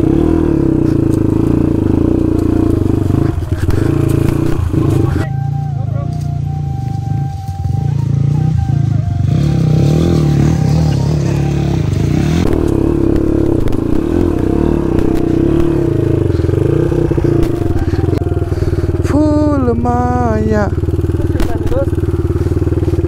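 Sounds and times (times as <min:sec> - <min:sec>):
dirt bike engine revving: 0:00.0 - 0:05.7, 0:06.3 - 0:23.0.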